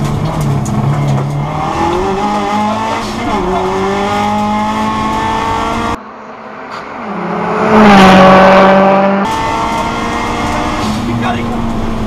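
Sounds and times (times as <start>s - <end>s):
car approaching and passing: 0.0s - 12.0s.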